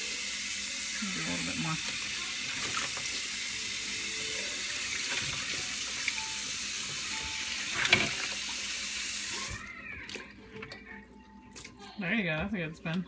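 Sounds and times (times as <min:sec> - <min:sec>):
faucet running into steel sink: 0:00.0 - 0:10.8.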